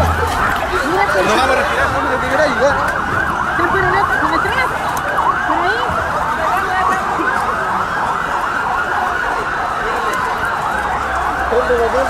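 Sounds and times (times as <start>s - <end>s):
police sirens yelping: 0.0s - 12.0s.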